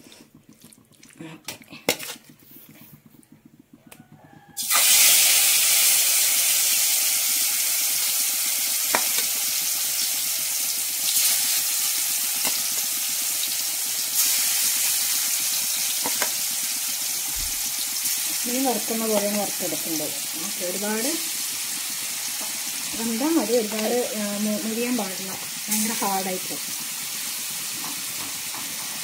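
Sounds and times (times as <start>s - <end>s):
chicken sizzling in hot oil: 3.2s - 29.0s.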